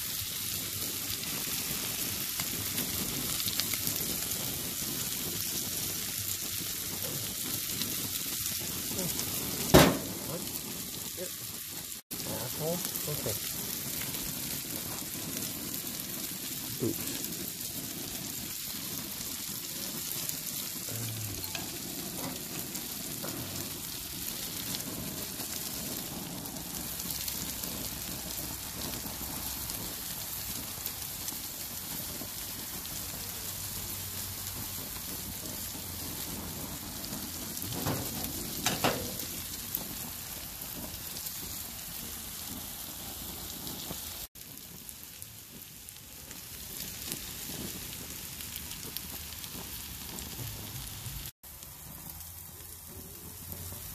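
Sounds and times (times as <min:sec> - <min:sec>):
food sizzling on a grill: 0:00.0 - 0:53.9.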